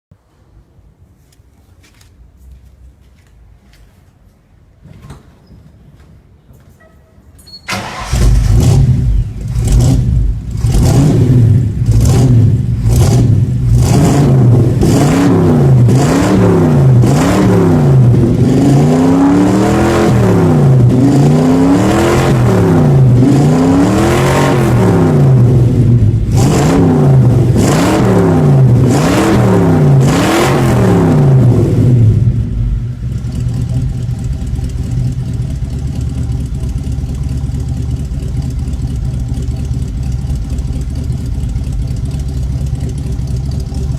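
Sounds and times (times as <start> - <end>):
car engine starting and revving: 7.7 - 43.9.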